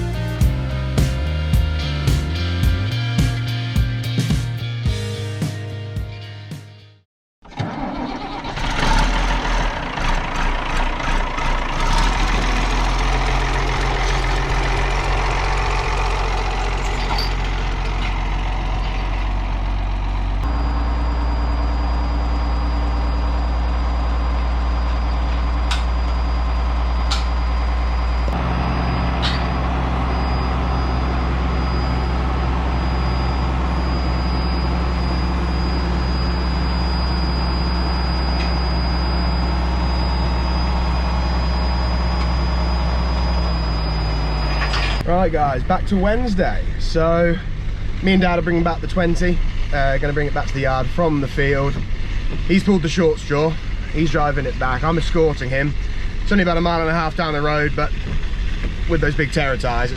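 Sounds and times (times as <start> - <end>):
tractor diesel engine running: 0.0 - 5.4, 7.4 - 59.9.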